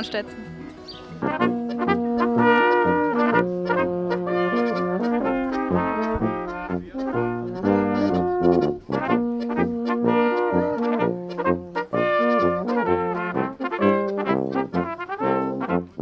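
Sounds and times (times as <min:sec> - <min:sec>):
trumpet and flugelhorn melody: 0:00.0 - 0:16.0
tuba bass line: 0:00.3 - 0:16.0.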